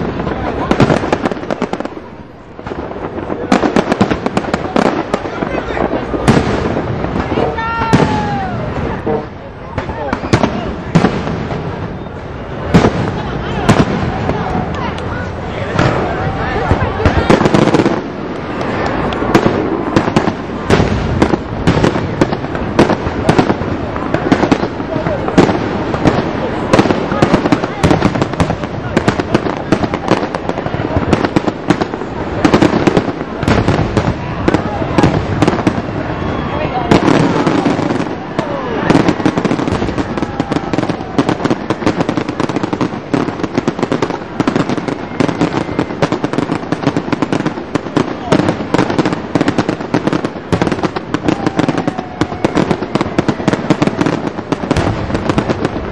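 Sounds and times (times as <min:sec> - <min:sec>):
fireworks bangs: 0:00.0 - 0:55.9.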